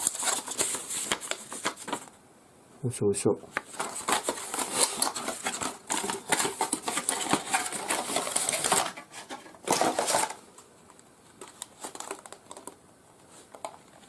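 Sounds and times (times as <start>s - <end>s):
plastic and cardboard rustling: 0.0s - 2.2s, 3.5s - 14.0s.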